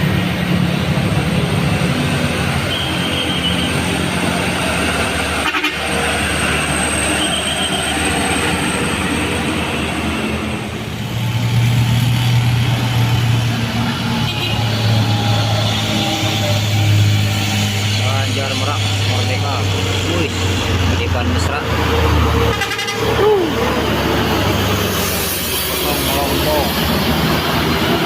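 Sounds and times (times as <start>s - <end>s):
bus diesel engine hum: 0.0s - 28.0s
road traffic: 0.0s - 28.0s.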